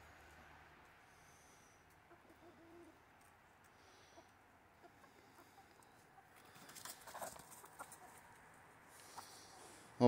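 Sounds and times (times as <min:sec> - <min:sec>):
chickens clucking: 0:01.8 - 0:09.9.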